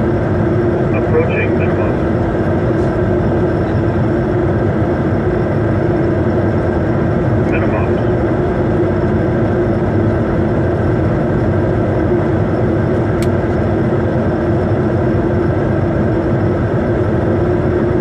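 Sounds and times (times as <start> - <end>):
cockpit airflow and engine noise: 0.0 - 18.0.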